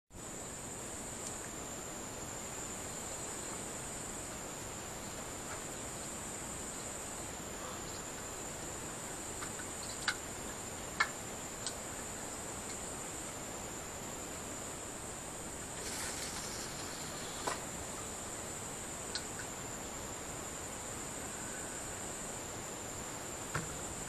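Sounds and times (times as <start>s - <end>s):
crickets chirping: 0.2s - 24.0s
soft background hiss: 0.2s - 24.0s.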